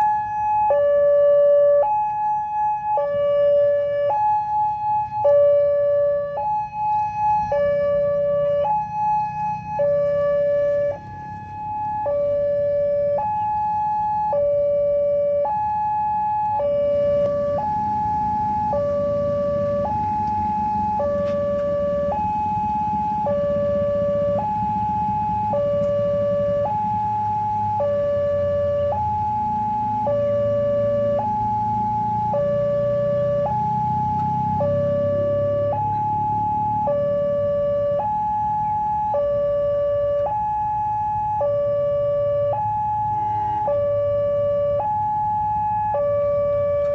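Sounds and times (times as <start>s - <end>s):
two-tone crossing alarm: 0.0s - 46.9s.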